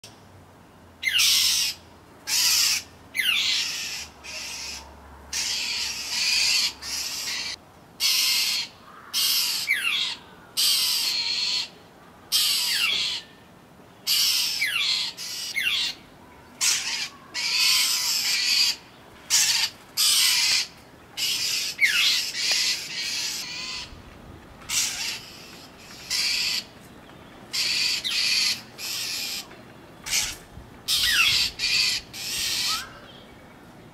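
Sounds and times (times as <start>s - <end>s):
birds giving raspy scolding calls: 1.0s - 13.3s, 14.0s - 16.0s, 16.6s - 24.0s, 24.6s - 33.2s.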